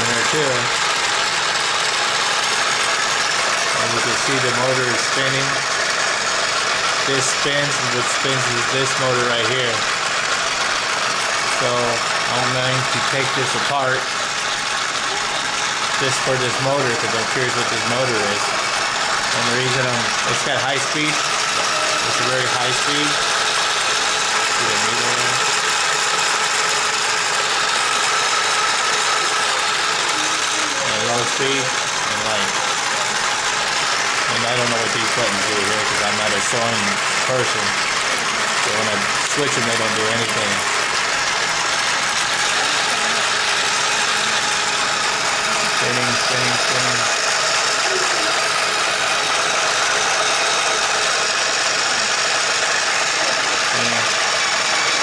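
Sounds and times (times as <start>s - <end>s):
toy sewing machine whirring: 0.0s - 55.0s.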